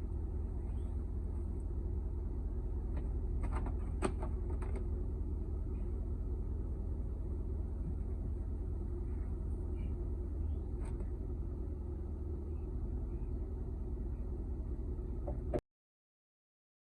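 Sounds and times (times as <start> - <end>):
car engine low rumble: 0.0 - 15.6.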